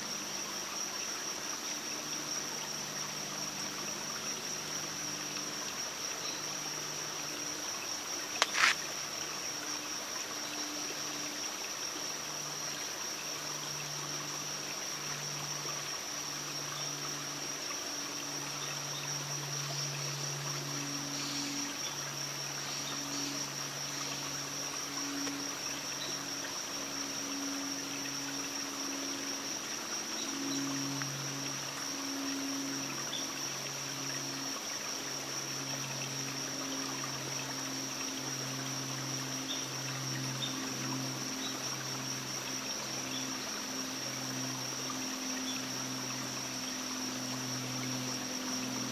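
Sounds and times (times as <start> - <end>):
even hiss: 0.0 - 48.9
high-pitched insect drone: 0.0 - 48.9.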